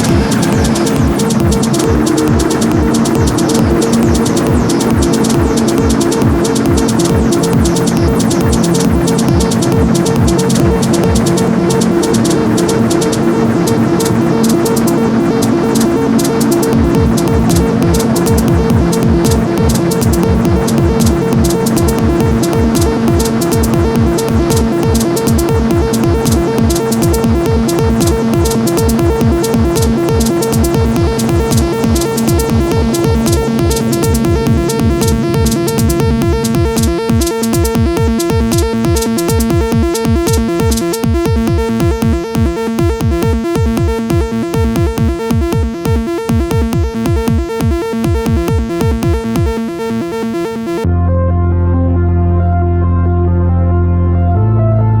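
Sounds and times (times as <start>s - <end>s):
low synth drone: 0.0s - 43.1s, 48.2s - 55.0s
techno music with steady beat: 0.0s - 50.9s.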